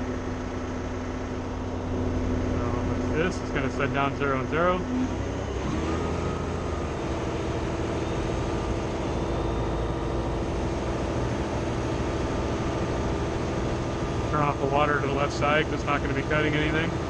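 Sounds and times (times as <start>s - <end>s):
milling machine mechanical drone: 0.0s - 17.0s.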